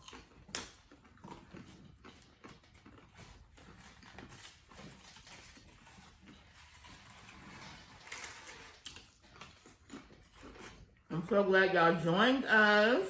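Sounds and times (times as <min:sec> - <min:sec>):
chewing with small crunches: 0:00.0 - 0:12.9.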